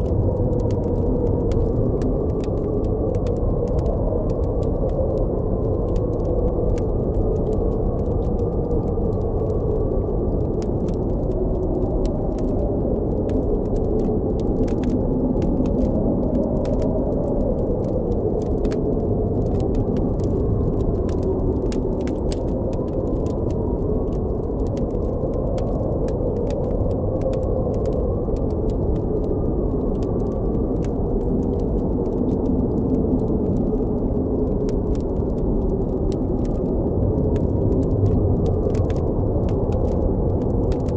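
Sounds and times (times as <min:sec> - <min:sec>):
blizzard wind howling: 0:00.0 - 0:40.9
campfire crackling: 0:00.0 - 0:40.9.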